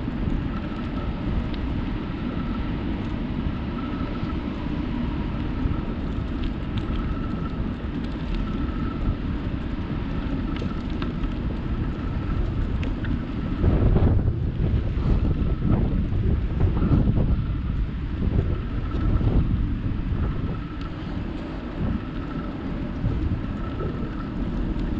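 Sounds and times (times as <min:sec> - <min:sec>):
tyres rolling on asphalt: 0:00.0 - 0:24.9
wind rushing over microphone: 0:00.0 - 0:24.9.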